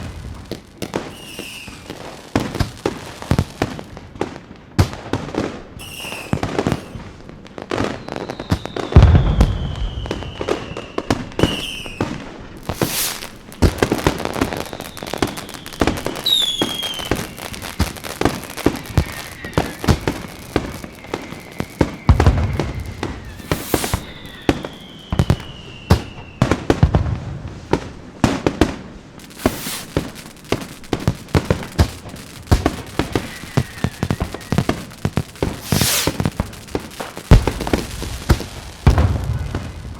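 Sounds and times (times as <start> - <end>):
deep firework booms: 0.0 - 4.1, 6.2 - 39.9
fireworks crackling and popping: 0.0 - 39.9
whistling fireworks: 0.0 - 39.9.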